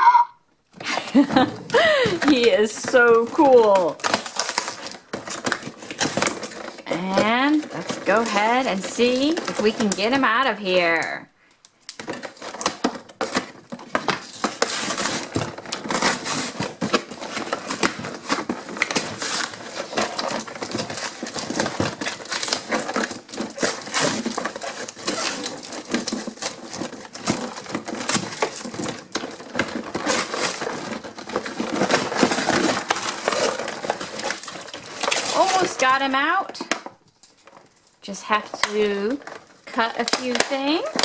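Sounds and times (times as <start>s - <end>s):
cardboard and plastic crinkling: 0.7s - 41.0s
packaging clicks and snaps: 1.3s - 10.2s, 11.0s - 35.9s, 38.5s - 41.0s.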